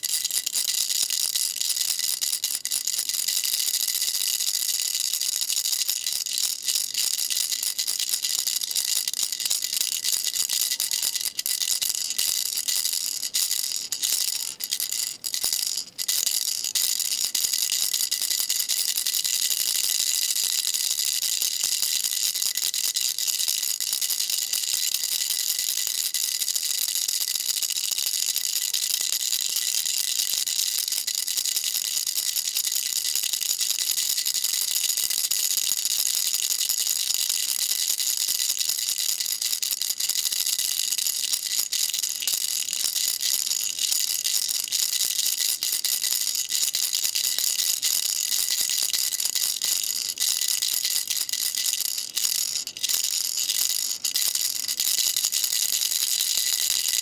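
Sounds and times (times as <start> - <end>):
baby rattle shaken: 0.0 - 57.0.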